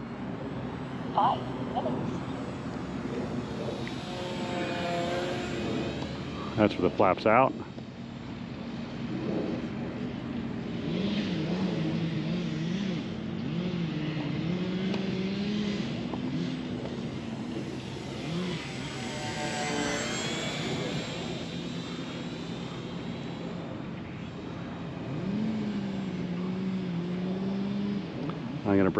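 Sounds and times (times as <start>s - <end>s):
electric model plane buzzing: 0.0s - 28.9s
high whine passing overhead: 0.0s - 28.9s.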